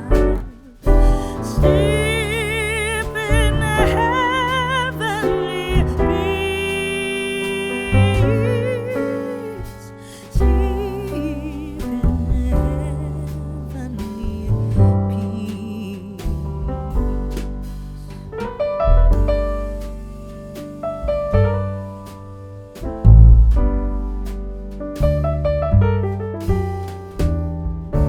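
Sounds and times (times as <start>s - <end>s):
instrumental piano music: 0.0s - 28.0s.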